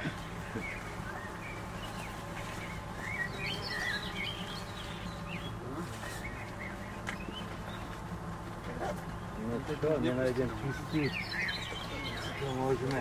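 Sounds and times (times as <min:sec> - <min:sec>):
honeybees humming: 0:00.0 - 0:13.0
songbird chirping: 0:00.0 - 0:13.0.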